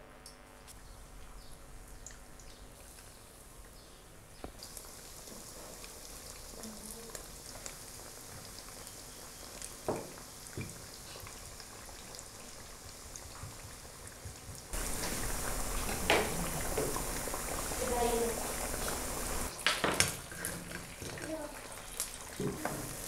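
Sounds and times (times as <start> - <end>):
deep-frying sizzle with pops: 0.0 - 23.0.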